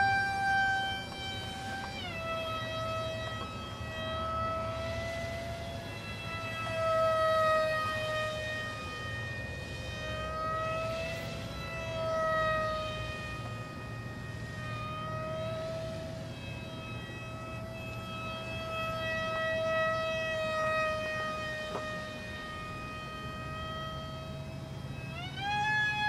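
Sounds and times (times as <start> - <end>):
rc plane motor whining: 0.0 - 26.0.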